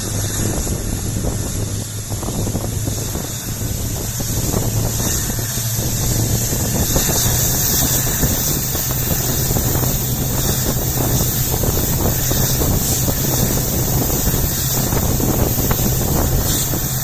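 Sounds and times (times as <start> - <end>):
diesel locomotive engine humming: 0.0 - 17.0
wind rushing past microphone: 0.0 - 17.0.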